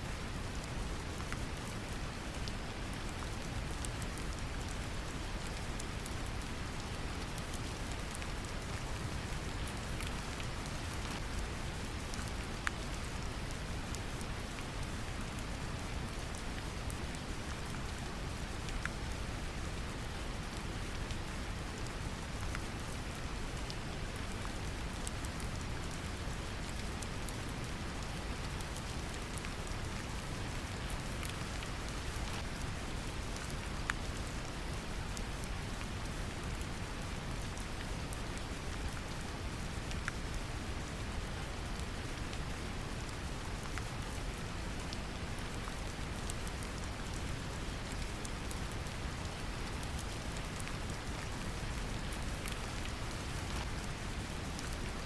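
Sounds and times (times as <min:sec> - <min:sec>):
gentle rain drops: 0:00.0 - 0:55.0.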